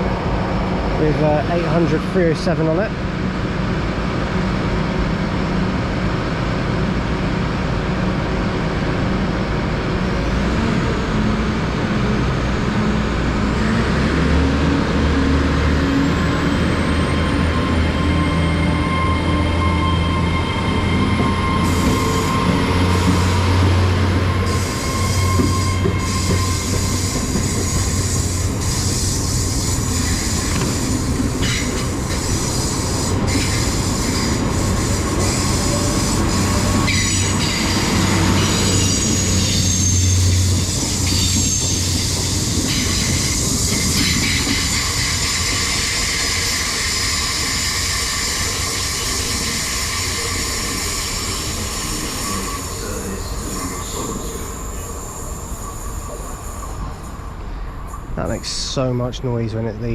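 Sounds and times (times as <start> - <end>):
train diesel engine drone: 0.0 - 59.9.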